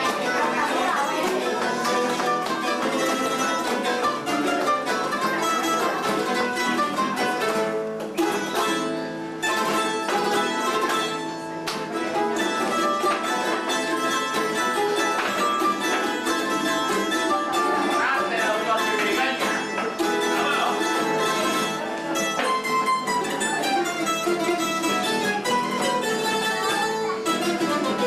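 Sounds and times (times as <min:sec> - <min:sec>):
plucked string trio playing: 0:00.0 - 0:28.0.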